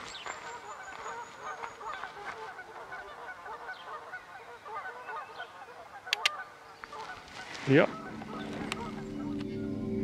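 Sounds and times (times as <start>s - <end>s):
waterfowl honking: 0.2s - 9.8s.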